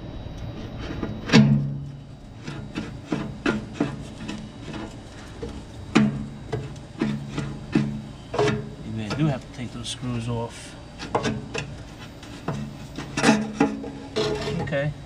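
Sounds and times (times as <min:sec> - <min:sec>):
metal knocks and clanks: 0:00.8 - 0:09.4, 0:11.0 - 0:14.8.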